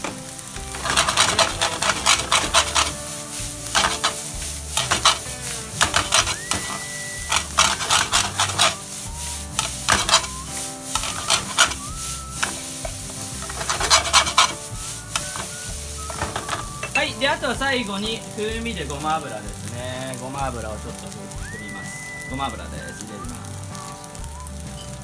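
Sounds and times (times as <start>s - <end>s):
wooden spatula scraping a pan: 0.0s - 21.4s
rice sizzling in a frying pan: 0.0s - 25.0s.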